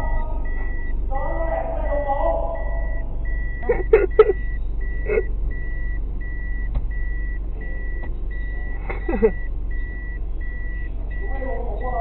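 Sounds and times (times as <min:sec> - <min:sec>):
reversing warning beeps: 0:00.0 - 0:01.1, 0:01.8 - 0:12.0
engine idling hum: 0:00.0 - 0:12.0.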